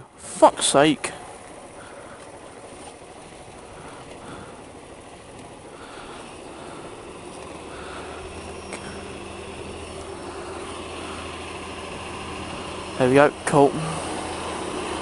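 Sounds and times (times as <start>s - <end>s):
steady low engine hum: 0.0s - 15.0s
vehicle engines running: 0.0s - 15.0s.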